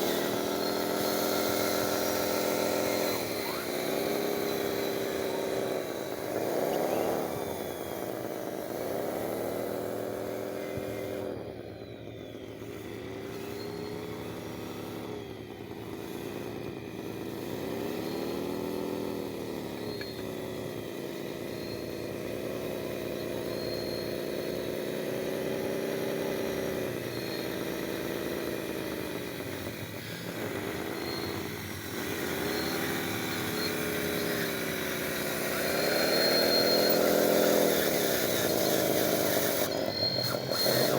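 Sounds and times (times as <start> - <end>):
small electric motor whining: 0.0 - 40.9.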